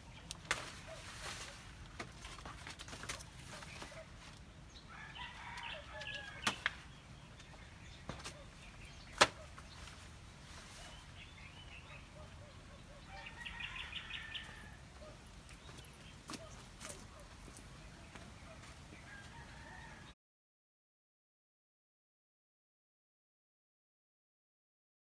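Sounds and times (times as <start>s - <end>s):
chickens calling: 0.0s - 20.1s.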